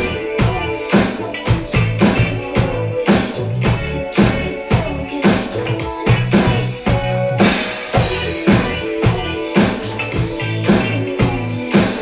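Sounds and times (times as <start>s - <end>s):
electronic drum kick and snare: 0.0s - 12.0s
pop backing track with bass line: 0.0s - 12.0s.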